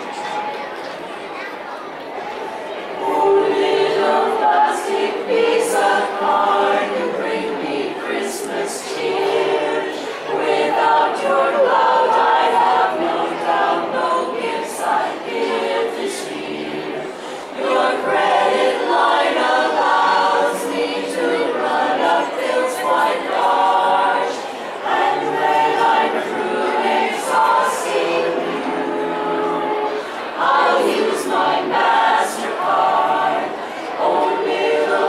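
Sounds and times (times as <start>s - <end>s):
women's chorus singing a cappella: 2.8s - 35.0s.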